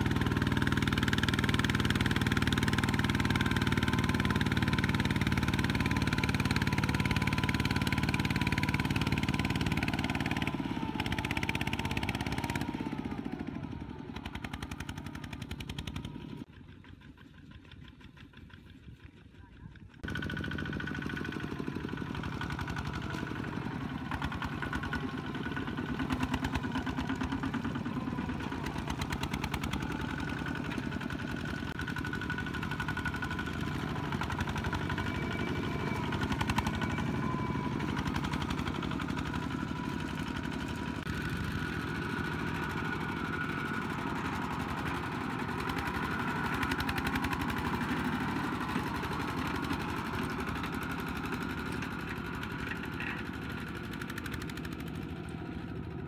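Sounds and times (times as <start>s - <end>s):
diesel engines chugging: 0.0s - 56.0s.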